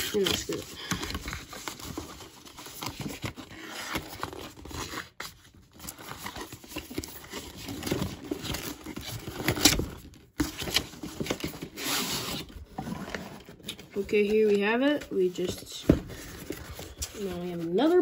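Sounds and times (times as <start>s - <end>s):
cardboard rustling and tearing: 0.0s - 18.0s.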